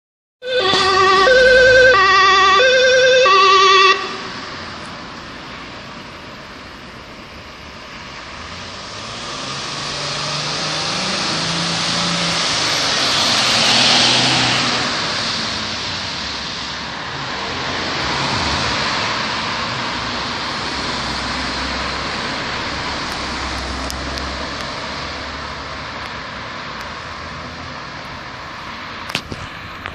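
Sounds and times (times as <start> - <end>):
van driving past: 0.4 - 26.0
passing traffic rush: 0.4 - 29.9.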